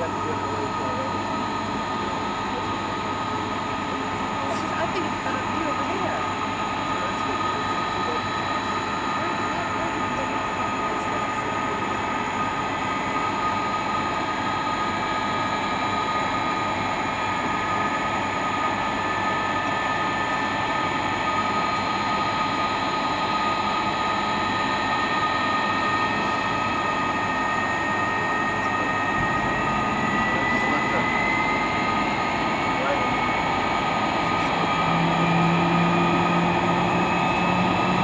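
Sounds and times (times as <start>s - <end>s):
jet engine spooling up: 0.0s - 38.0s.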